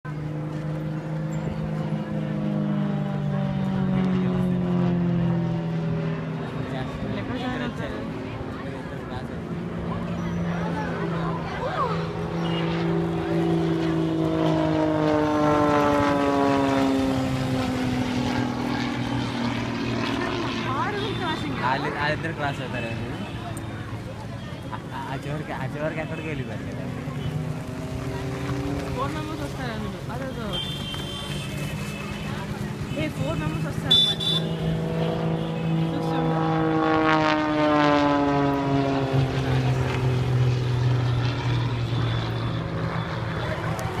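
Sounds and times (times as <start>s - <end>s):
aircraft flying past: 0.1s - 44.0s.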